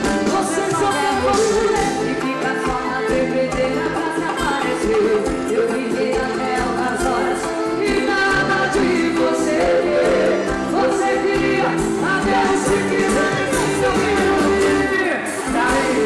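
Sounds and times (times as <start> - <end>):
instrumental backing music: 0.0 - 16.0
person singing: 0.0 - 16.0.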